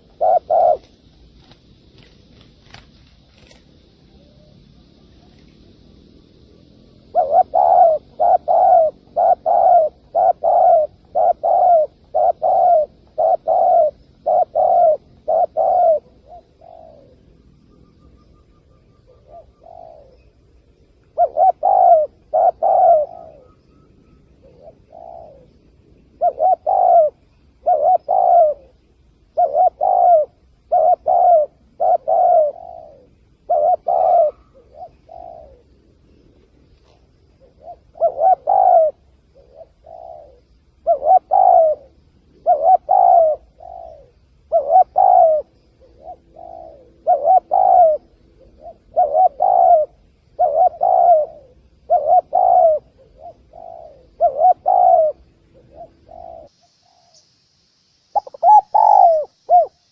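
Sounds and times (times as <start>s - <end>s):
dove cooing: 0.0s - 57.2s, 58.1s - 59.9s.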